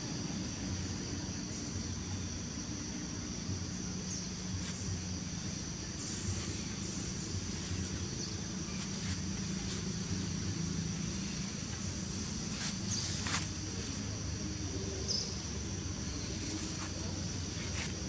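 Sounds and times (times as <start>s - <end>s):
high-pitched insect drone: 0.0s - 18.0s
low hum: 0.0s - 18.0s.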